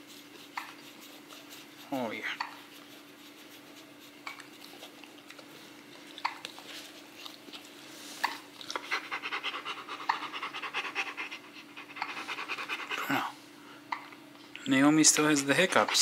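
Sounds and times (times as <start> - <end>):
dog panting: 0.0 - 13.3, 14.8 - 16.0.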